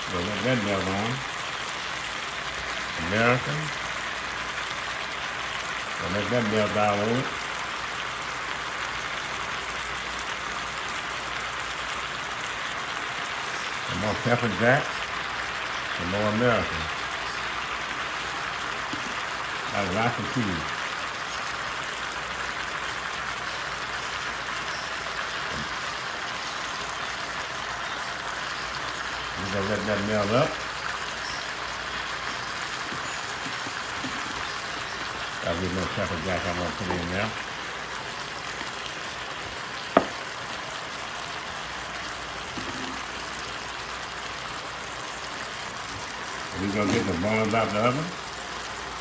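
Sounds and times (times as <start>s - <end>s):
food sizzling in a skillet: 0.0s - 49.0s.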